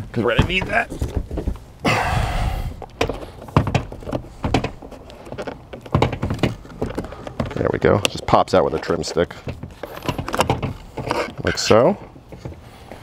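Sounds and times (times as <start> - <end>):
scraping rustle: 0.1 - 1.8, 3.1 - 13.0.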